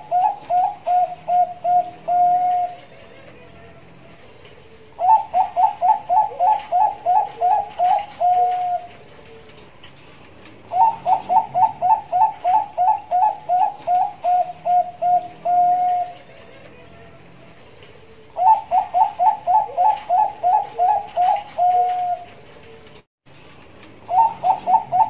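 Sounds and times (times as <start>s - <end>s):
dove cooing: 0.0s - 9.8s, 10.6s - 22.9s, 24.0s - 25.0s.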